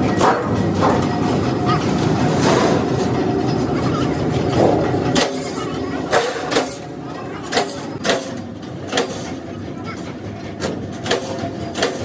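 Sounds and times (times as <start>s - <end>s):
sharp metallic clanks: 0.0s - 9.4s, 10.0s - 12.0s
shearing machine clatter and rumble: 0.0s - 12.0s.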